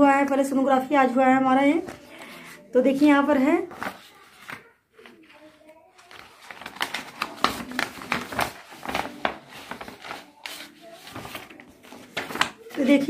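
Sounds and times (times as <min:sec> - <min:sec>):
paper rustling and crinkling: 0:01.7 - 0:13.0.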